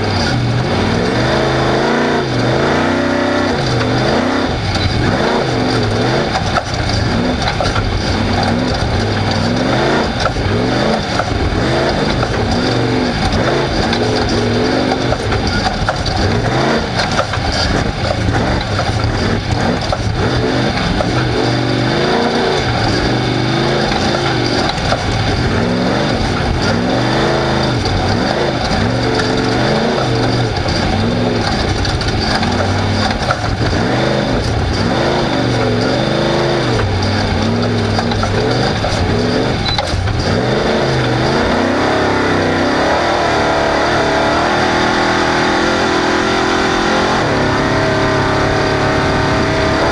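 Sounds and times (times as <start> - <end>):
race car engine revving: 0.0 - 49.9
wind and tyre noise: 0.0 - 49.9.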